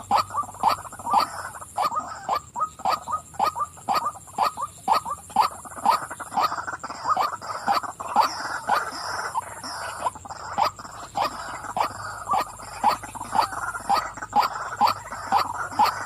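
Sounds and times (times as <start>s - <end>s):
waterhen harsh calls: 0.0s - 16.0s.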